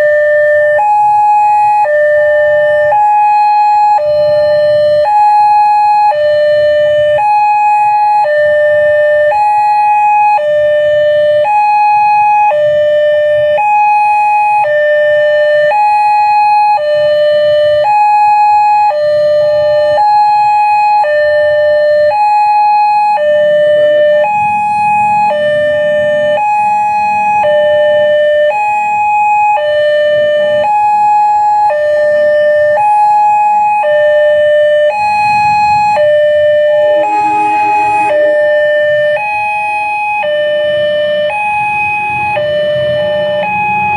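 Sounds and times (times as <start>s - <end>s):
level crossing two-tone alarm: 0.0s - 43.9s.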